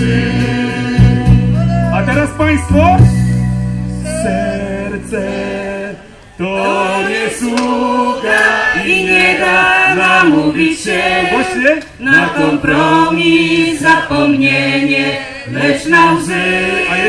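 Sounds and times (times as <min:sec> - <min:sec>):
mixed voices singing: 0:00.0 - 0:02.0, 0:03.9 - 0:17.0
backing band: 0:00.0 - 0:17.0.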